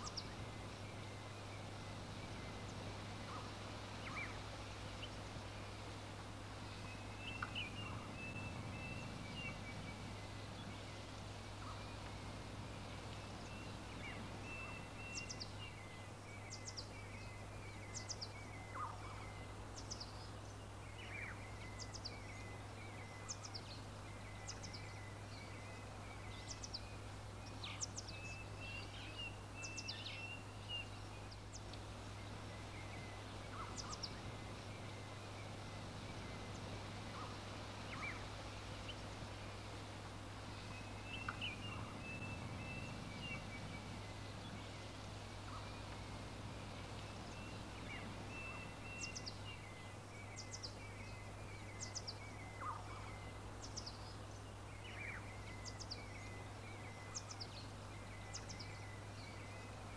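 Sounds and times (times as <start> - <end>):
small birds chirping: 0.0 - 59.9
steady low hum: 0.0 - 59.9.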